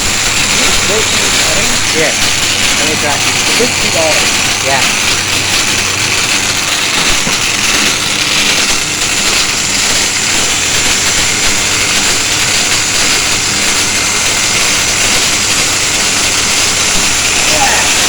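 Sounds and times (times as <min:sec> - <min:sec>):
angle grinder whining: 0:00.0 - 0:18.0.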